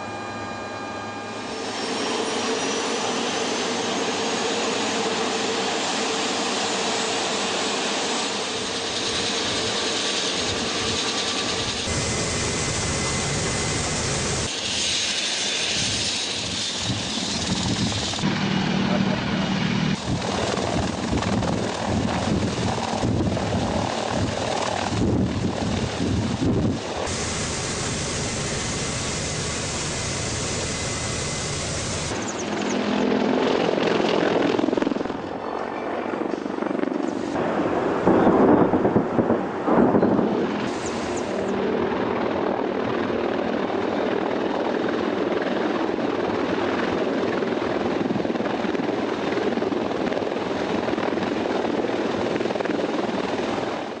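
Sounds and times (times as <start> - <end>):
helicopter rotor and turbine: 0.0 - 54.0.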